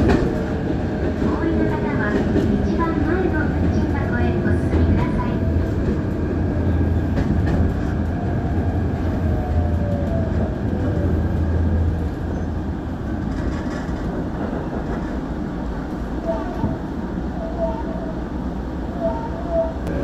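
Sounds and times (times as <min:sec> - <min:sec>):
train car rumbling on track: 0:00.0 - 0:20.0.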